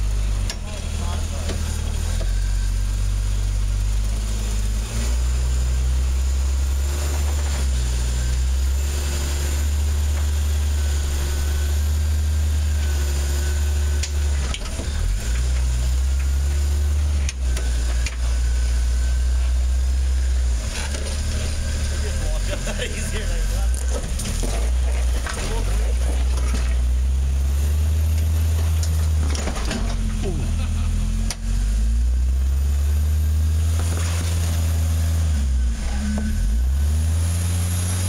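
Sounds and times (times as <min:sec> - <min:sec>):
car engine rumbling low: 0:00.0 - 0:38.0.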